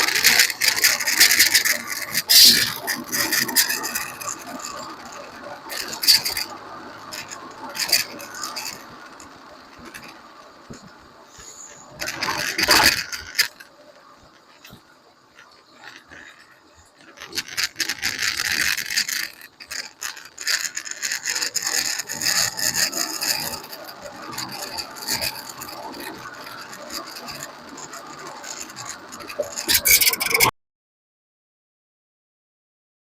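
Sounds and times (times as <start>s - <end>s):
rasping rattly wheel noise: 0.0s - 30.5s.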